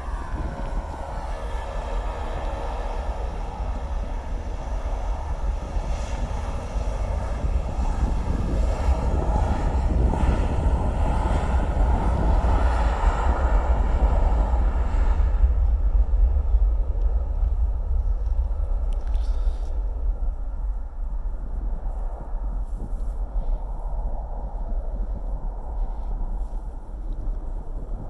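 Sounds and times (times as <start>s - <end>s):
jet engines at takeoff power: 0.0s - 28.0s.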